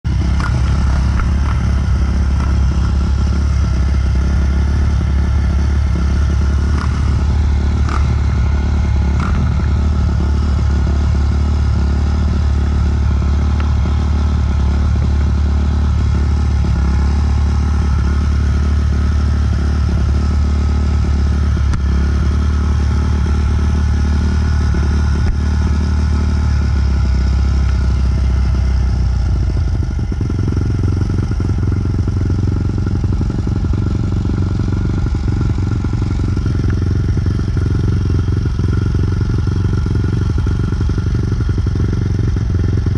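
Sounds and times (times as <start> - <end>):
dirt bike engines idling: 0.0 - 42.9.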